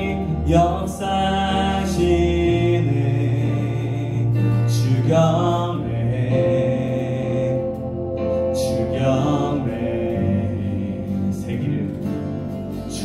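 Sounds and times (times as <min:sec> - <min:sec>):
person singing: 0:00.0 - 0:13.0
worship band playing slow song: 0:00.0 - 0:13.0.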